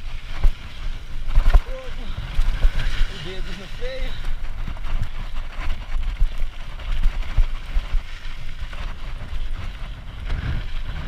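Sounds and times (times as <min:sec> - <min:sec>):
tyres crackling over gravel: 0:00.0 - 0:11.0
wind buffeting microphone: 0:00.0 - 0:11.0.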